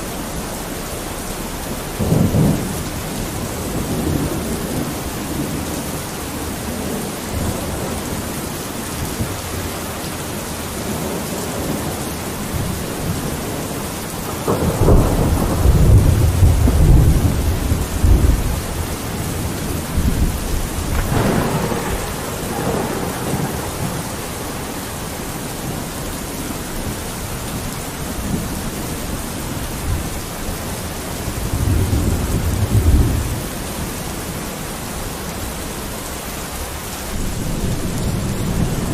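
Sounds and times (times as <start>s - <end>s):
rain on a window: 0.0s - 38.9s
thunder rumbling: 0.0s - 38.9s.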